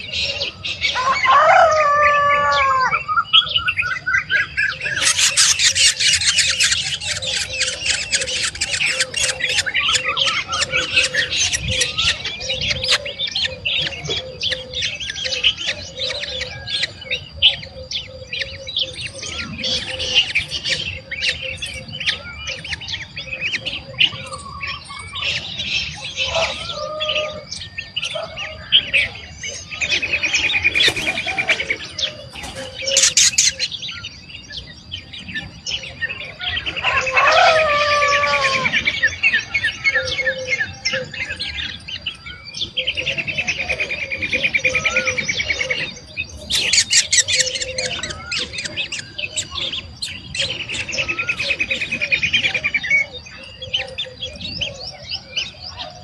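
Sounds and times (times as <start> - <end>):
gliding wavering bird calls: 0.0 - 56.0
small birds chirping: 0.0 - 56.0.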